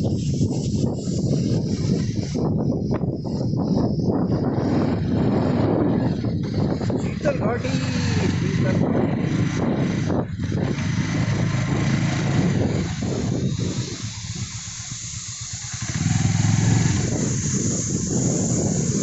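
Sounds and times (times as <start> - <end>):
motorcycle engine running: 0.0 - 19.0
wind noise on microphone: 0.0 - 19.0.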